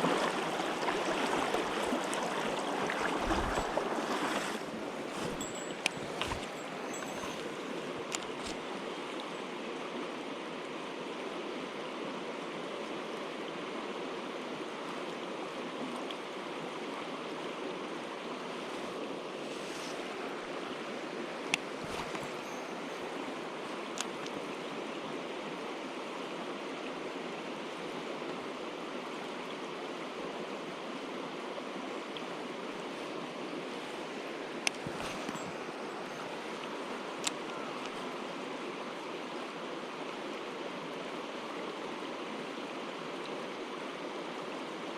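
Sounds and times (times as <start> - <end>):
mountain stream rushing: 0.0 - 44.9.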